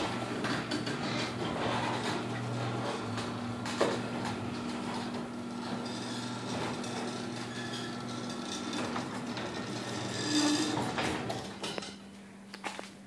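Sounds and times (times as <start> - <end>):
garage door opener motor hum: 0.0 - 12.2.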